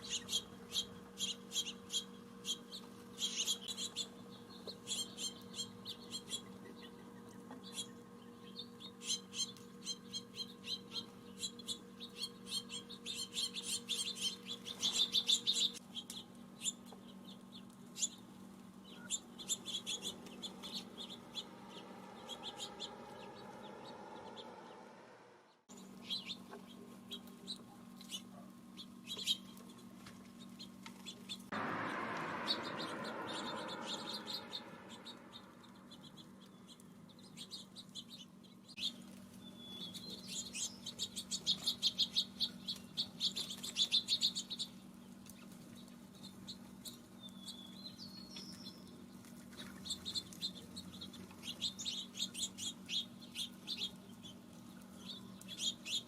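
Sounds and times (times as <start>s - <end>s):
small songbirds chirping: 0.0s - 56.0s
steady low hum: 0.0s - 56.0s.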